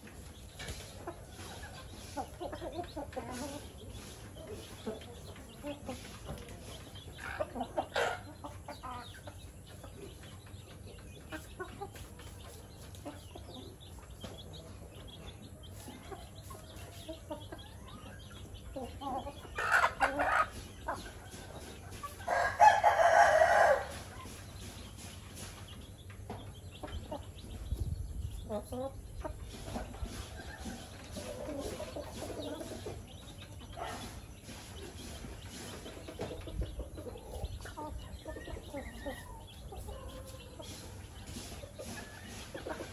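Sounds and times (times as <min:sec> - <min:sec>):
chickens clucking: 0:00.0 - 0:42.9
chickens pecking and scratching: 0:00.0 - 0:42.9.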